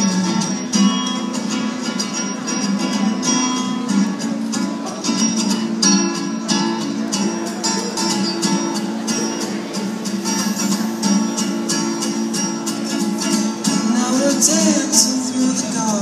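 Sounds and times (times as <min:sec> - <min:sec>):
amplified acoustic guitar strumming: 0:00.0 - 0:16.0.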